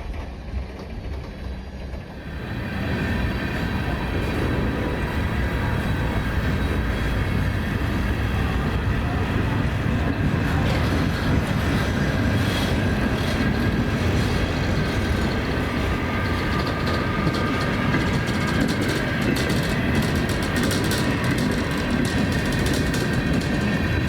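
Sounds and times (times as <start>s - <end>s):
train wheels rumbling on rail: 0.0s - 24.0s
wheels clicking over rail joints: 2.1s - 24.0s.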